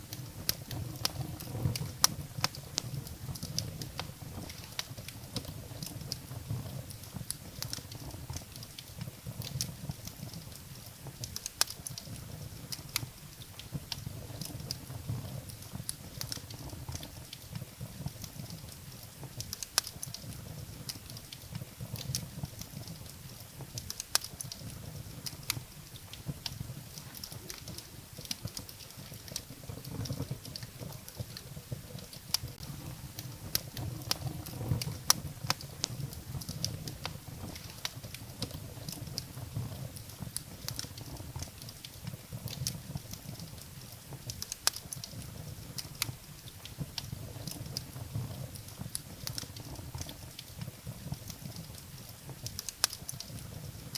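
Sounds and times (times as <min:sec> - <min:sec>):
firewood crackling and popping: 0:00.0 - 0:53.9
low rumble of flames: 0:00.0 - 0:53.9.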